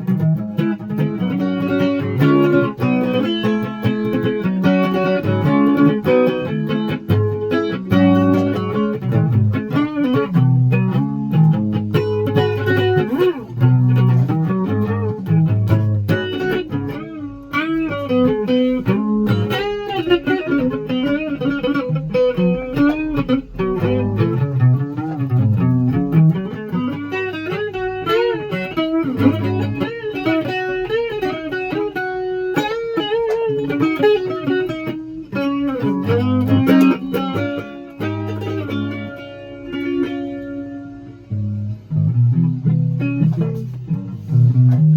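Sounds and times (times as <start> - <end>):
plucked guitar notes: 0.0 - 44.9.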